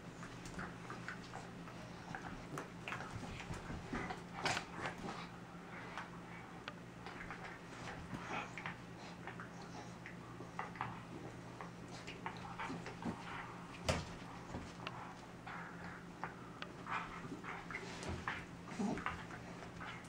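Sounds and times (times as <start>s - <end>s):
faint low hum: 0.0s - 20.0s
dogs scuffling and pawing: 0.1s - 6.1s, 7.0s - 20.0s.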